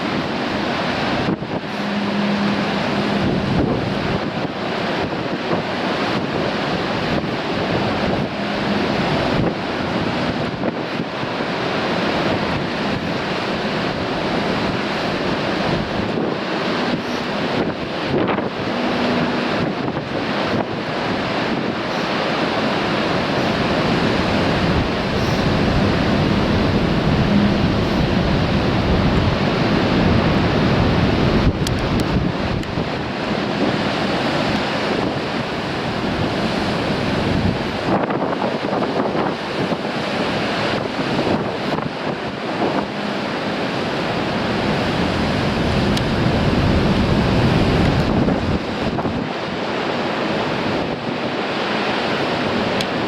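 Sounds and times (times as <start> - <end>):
sea waves breaking on rocks: 0.0 - 53.0
strong wind: 0.0 - 53.0.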